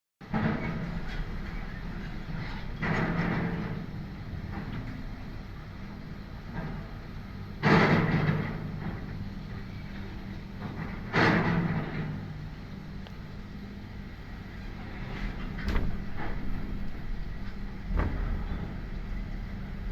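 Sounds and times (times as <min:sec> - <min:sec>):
heavy machine engine running: 0:00.2 - 0:19.9.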